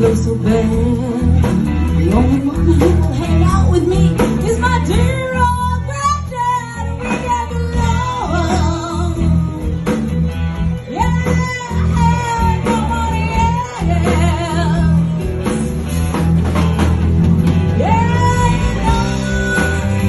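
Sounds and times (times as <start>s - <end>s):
bass and drums: 0.0s - 20.0s.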